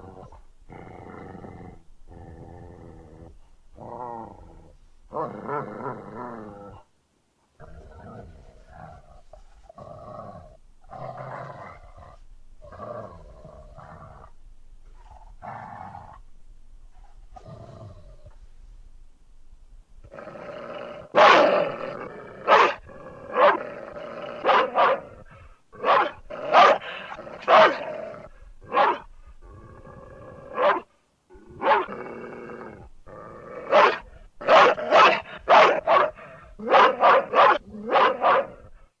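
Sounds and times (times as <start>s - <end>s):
dog growling: 0.0s - 6.8s, 7.6s - 16.2s, 17.4s - 18.4s, 20.0s - 38.9s.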